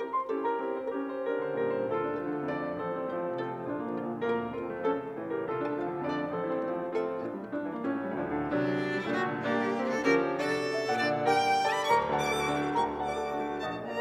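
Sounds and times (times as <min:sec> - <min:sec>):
bowed violin: 0:00.0 - 0:14.0
piano notes: 0:00.0 - 0:14.0.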